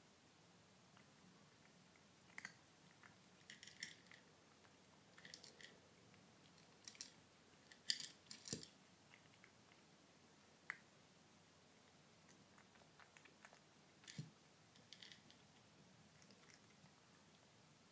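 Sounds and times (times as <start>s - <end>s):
kitten crunching dry kibble: 1.0s - 9.9s, 11.8s - 17.4s.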